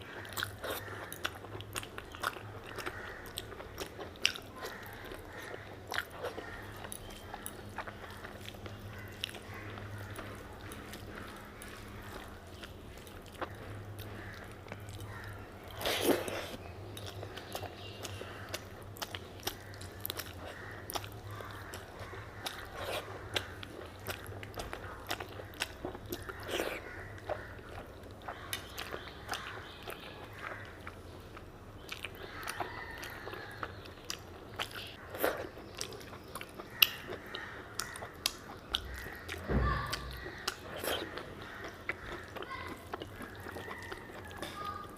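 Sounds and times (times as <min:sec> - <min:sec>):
close chewing and wet mouth clicks: 0:00.0 - 0:44.9.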